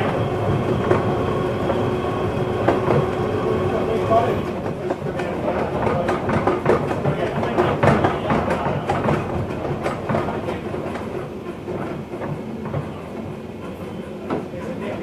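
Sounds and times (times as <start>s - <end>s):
clattering clicks of train: 0.0s - 15.0s
train wheels rumbling on rail: 0.0s - 15.0s.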